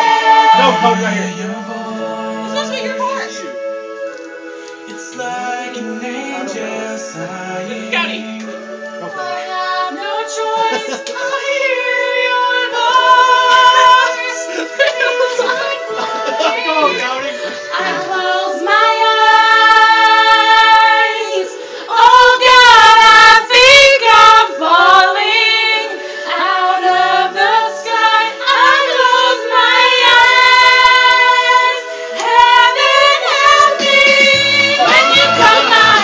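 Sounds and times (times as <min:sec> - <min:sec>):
steady backing chord: 0:00.0 - 0:12.0, 0:12.8 - 0:20.9, 0:24.0 - 0:36.0
high singing voices: 0:00.0 - 0:36.0.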